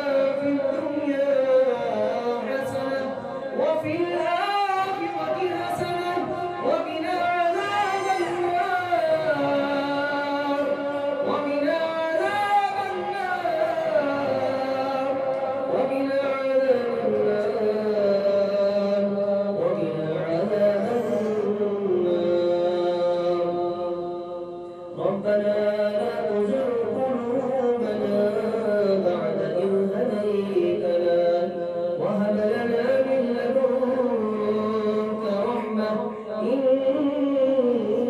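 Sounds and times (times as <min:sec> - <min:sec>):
person chanting: 0:00.0 - 0:38.0.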